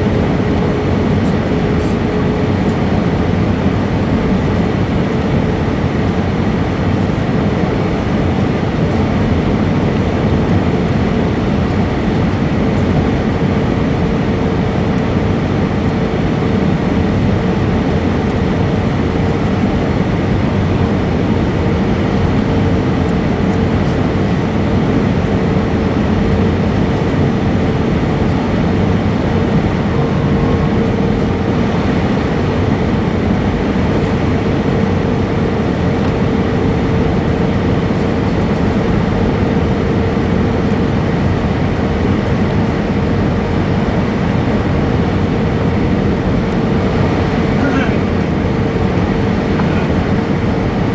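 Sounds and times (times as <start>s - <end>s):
airliner cabin engine noise: 0.0s - 50.9s
faint steady hum: 0.0s - 50.9s.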